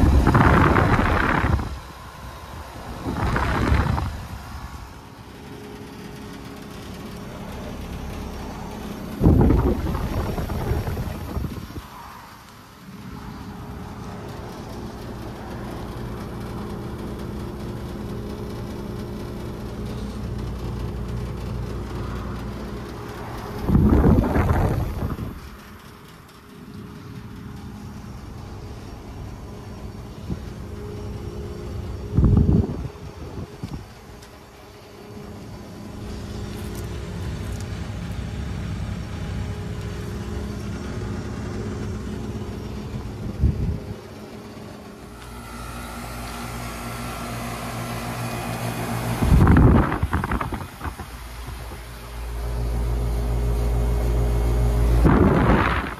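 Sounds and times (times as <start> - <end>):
compressor hum: 0.0 - 55.9
fan rushing: 0.0 - 55.9.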